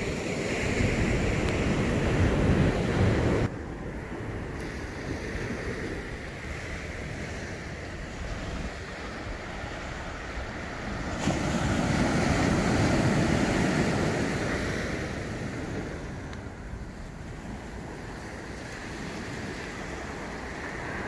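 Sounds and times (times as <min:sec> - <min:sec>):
ocean waves breaking on beach: 0:00.0 - 0:21.0
wind rumble on microphone: 0:00.0 - 0:21.0.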